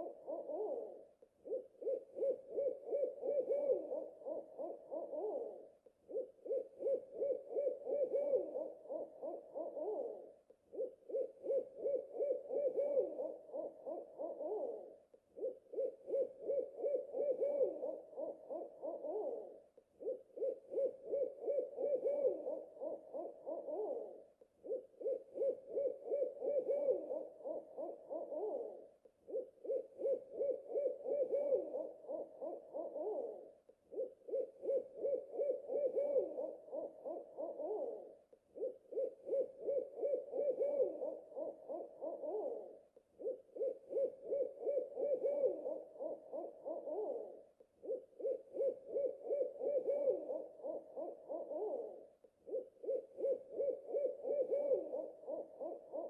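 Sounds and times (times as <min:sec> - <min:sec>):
owl hooting: 0:00.0 - 0:56.0.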